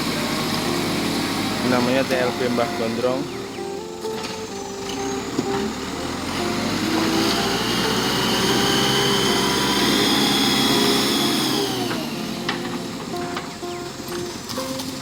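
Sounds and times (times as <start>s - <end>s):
diesel engine revving: 0.0s - 15.0s
high whine: 0.0s - 15.0s.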